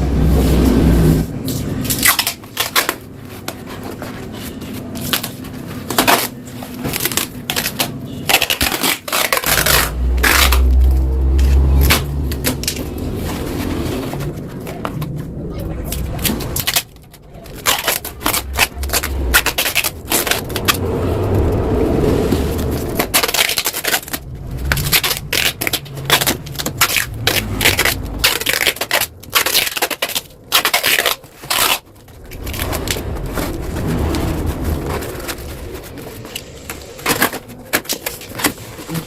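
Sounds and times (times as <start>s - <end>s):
metal scraping and crackling: 0.2s - 39.0s.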